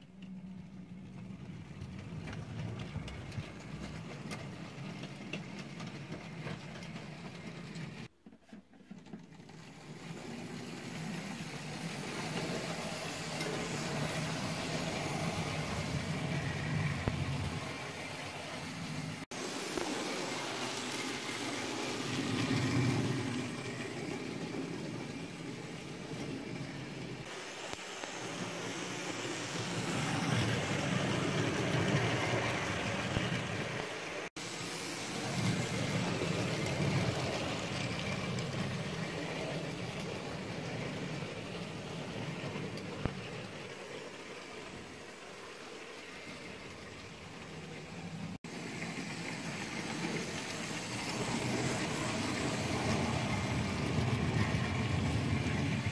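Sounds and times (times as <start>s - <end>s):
model train motors whirring: 9.2s - 55.9s.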